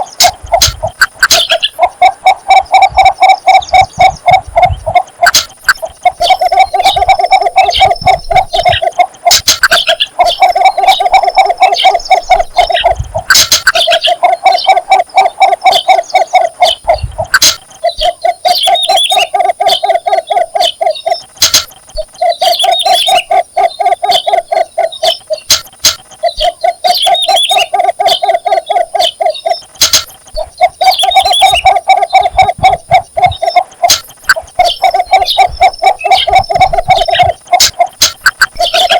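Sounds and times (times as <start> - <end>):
bird low repeated notes: 0.0 - 38.9
higher-pitched bird calls: 0.0 - 38.9.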